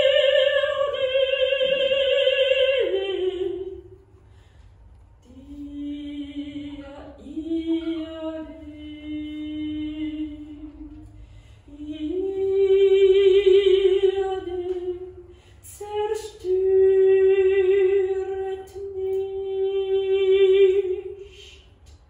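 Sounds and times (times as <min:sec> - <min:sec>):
solo soprano singing: 0:00.0 - 0:04.0, 0:05.2 - 0:21.7.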